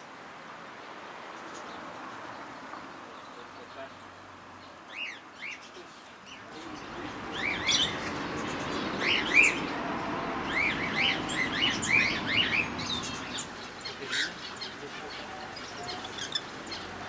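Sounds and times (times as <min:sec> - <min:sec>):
background noise: 0:00.0 - 0:17.0
small birds chirping: 0:01.2 - 0:17.0.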